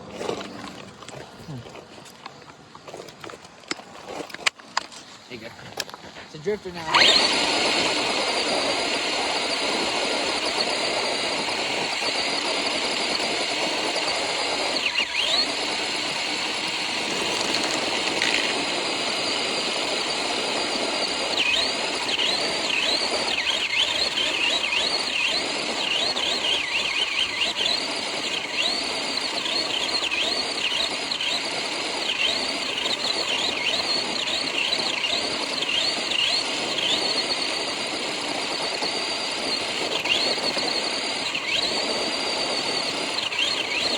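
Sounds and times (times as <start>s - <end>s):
rc car wheel and drivetrain noise: 0.0s - 43.9s
high motor whine rising and falling: 2.8s - 43.9s.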